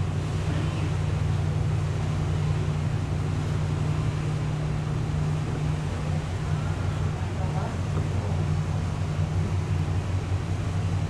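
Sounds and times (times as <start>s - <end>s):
ship engines humming: 0.0s - 11.0s.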